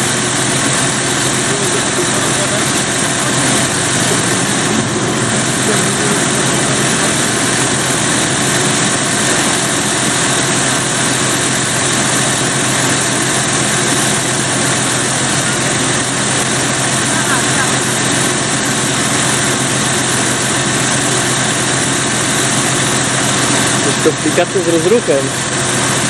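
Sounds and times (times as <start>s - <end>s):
diesel train engines idling: 0.0s - 26.0s.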